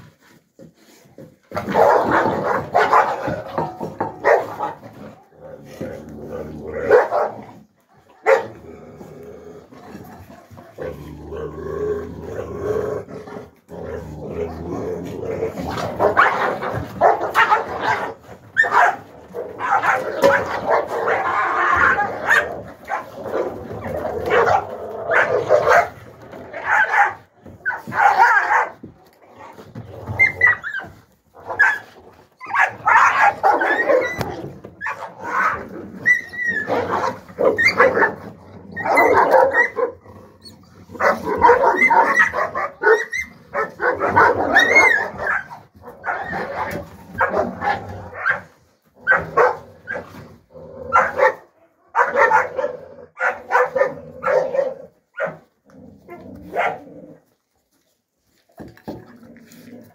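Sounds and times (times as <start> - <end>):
young dogs barking and yelping: 0.0 - 11.0, 14.4 - 59.9.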